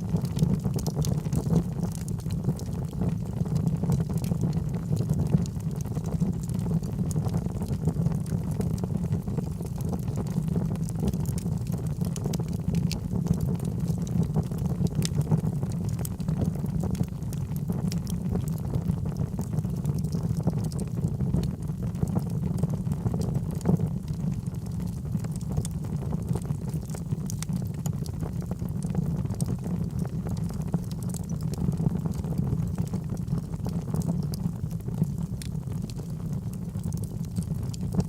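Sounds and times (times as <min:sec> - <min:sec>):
fire crackling and popping: 0:00.0 - 0:38.0
low rush of flames: 0:00.0 - 0:38.0.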